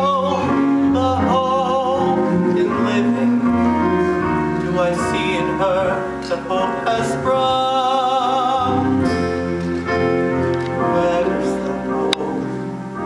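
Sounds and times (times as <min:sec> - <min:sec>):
instrumental accompaniment: 0:00.0 - 0:13.0
man singing with vibrato: 0:00.0 - 0:13.0.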